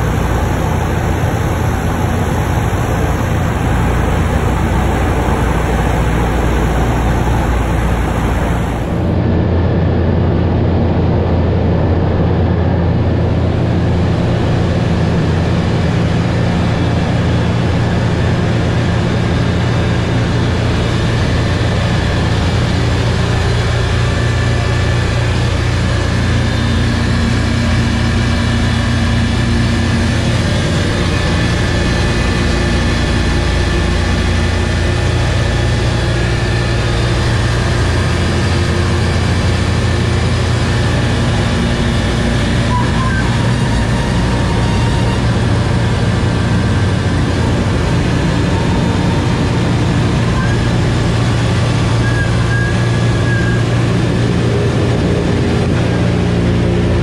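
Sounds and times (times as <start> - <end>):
aircraft radial engines droning: 0.0 - 57.0.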